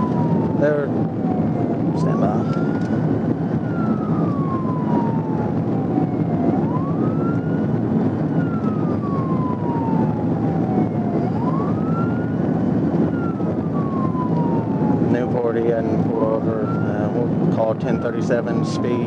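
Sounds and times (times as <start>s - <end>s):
police siren wailing: 0.0s - 19.0s
road and engine noise: 0.0s - 19.0s.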